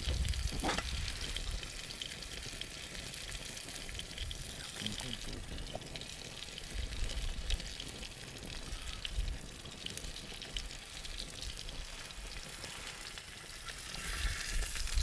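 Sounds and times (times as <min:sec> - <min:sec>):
fire crackles and pops: 0:00.0 - 0:15.0
food sizzling in frying pan: 0:00.0 - 0:15.0.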